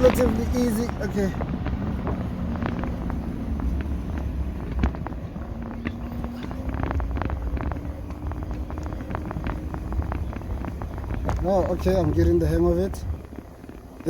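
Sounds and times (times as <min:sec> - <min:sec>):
road and wind rumble: 0:00.0 - 0:14.0.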